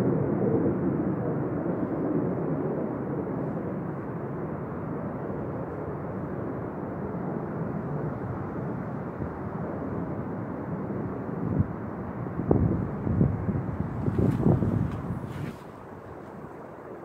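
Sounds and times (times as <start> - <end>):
fighter jets rumbling overhead: 0.0 - 17.0.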